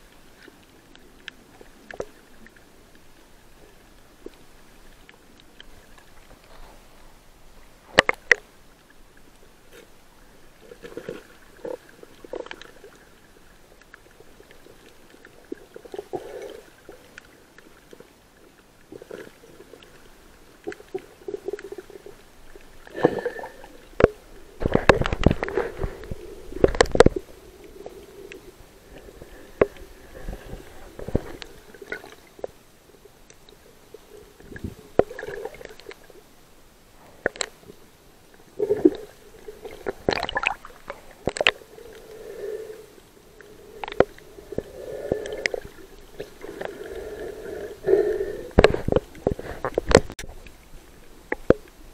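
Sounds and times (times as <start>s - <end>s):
water sloshing and bubbling: 0.0s - 51.9s.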